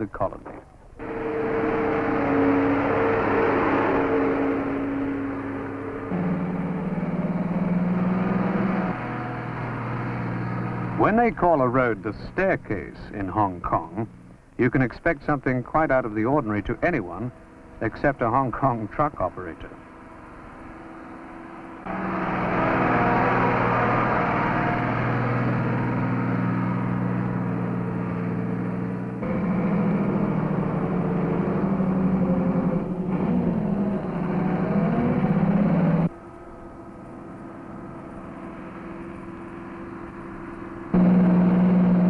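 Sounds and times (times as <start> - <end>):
truck engine pulling uphill: 0.0 - 42.0.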